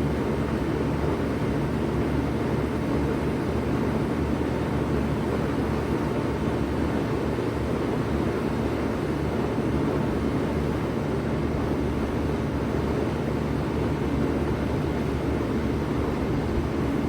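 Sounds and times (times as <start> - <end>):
heat pump running: 0.0 - 17.0.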